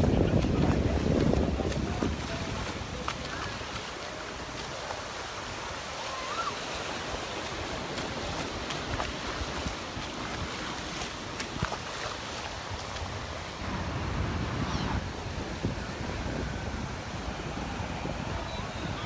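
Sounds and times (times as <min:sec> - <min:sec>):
surf washing onto beach: 0:00.0 - 0:19.0
wind buffeting microphone: 0:00.0 - 0:19.0.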